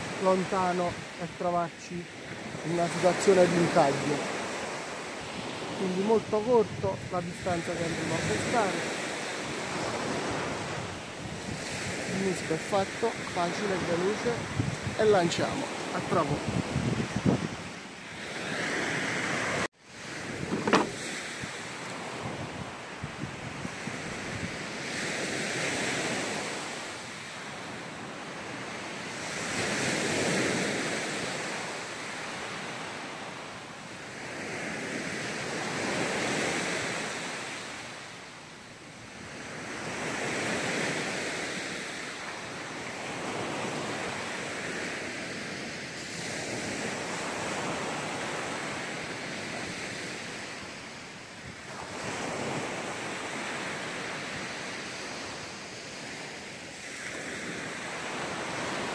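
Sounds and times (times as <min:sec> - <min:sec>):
small waves breaking on beach: 0:00.0 - 0:58.9.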